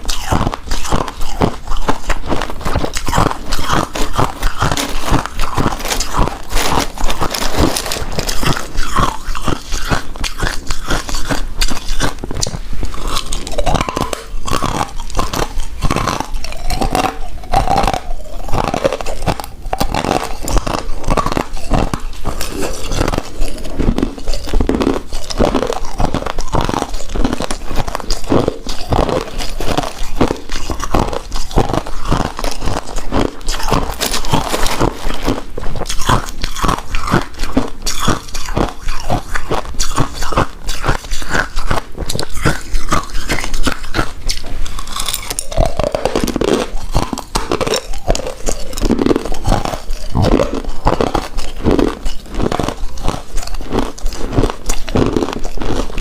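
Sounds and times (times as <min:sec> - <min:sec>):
chewing rice cake: 0:00.0 - 0:56.0.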